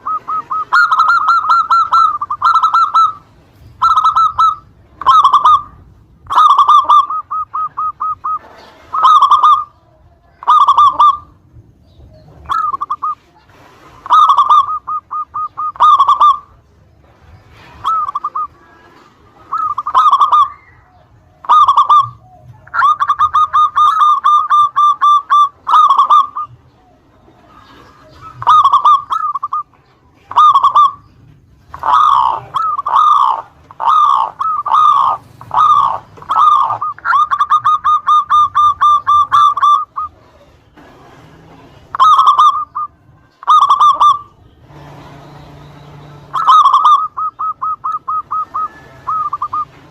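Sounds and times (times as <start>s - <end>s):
dove cooing in staccato notes: 0.0s - 49.9s.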